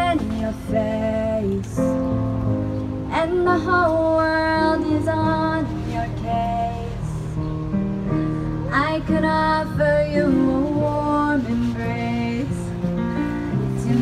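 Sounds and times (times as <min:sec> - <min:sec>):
girl singing slow melody: 0:00.0 - 0:02.0, 0:03.0 - 0:07.6, 0:08.5 - 0:12.8, 0:13.5 - 0:14.0
electric keyboard chords: 0:00.0 - 0:14.0.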